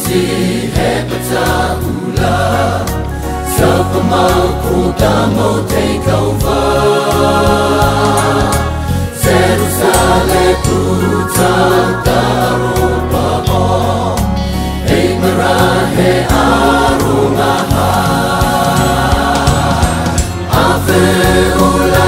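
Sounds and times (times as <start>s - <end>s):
choir singing: 0.0s - 22.0s
instrumental backing: 0.0s - 22.0s
bass line: 0.2s - 22.0s.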